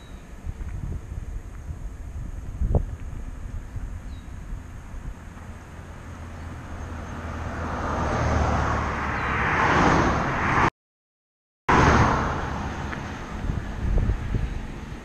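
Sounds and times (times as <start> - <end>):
car passing on asphalt: 0.3 - 10.7, 11.7 - 15.0.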